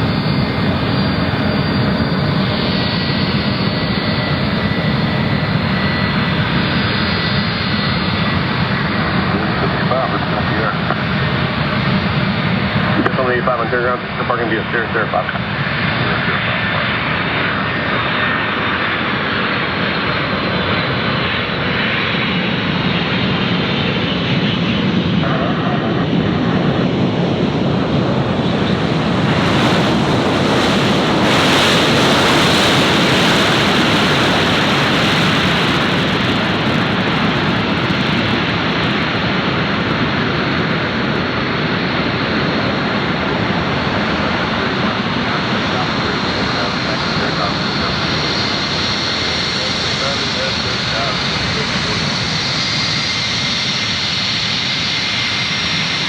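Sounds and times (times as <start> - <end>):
jet engine rushing: 0.0 - 56.0.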